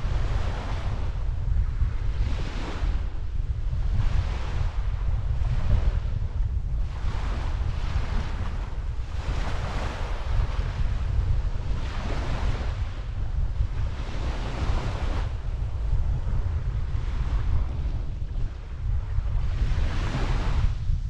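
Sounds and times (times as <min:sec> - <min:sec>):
waves washing onto beach: 0:00.0 - 0:20.8
wind buffeting microphone: 0:00.0 - 0:21.0.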